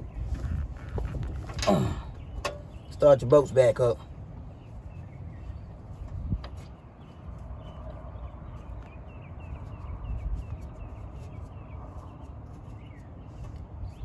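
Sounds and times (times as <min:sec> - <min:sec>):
bird chirping: 0:02.0 - 0:03.9, 0:04.5 - 0:14.0.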